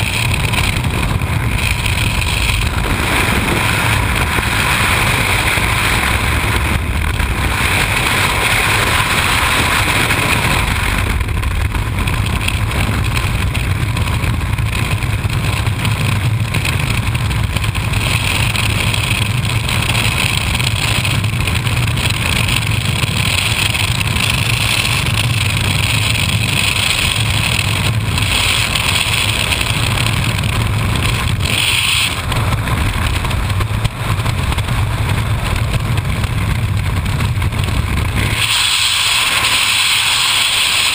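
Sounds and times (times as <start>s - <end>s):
freefall wind buffeting microphone: 0.0s - 40.9s.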